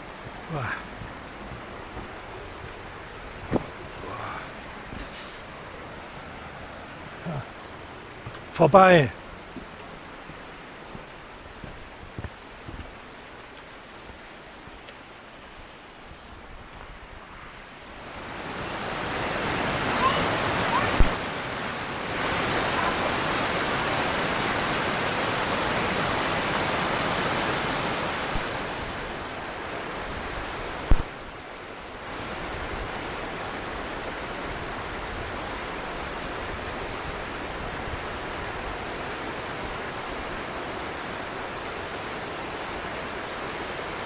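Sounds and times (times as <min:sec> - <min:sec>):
waterfall rushing: 0:00.0 - 0:16.4, 0:17.3 - 0:44.0.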